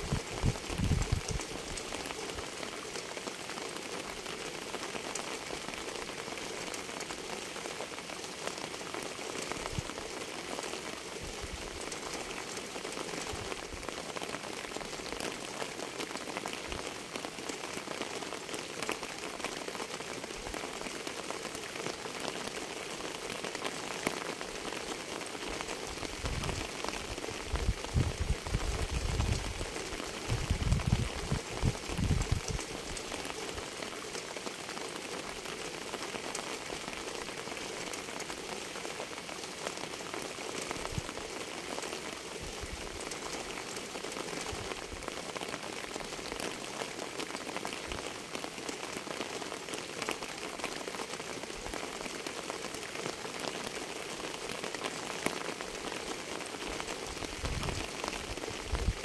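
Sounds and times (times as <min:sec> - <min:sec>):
steady rain pattering: 0:00.0 - 0:59.0.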